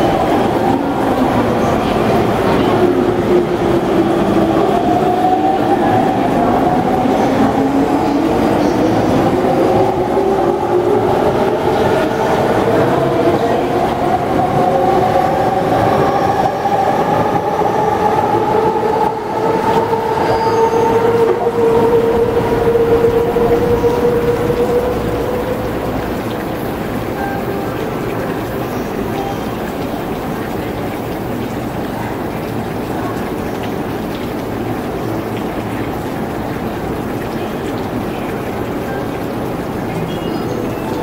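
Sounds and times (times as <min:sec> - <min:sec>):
wheels rumbling on rail: 0:00.0 - 0:41.0.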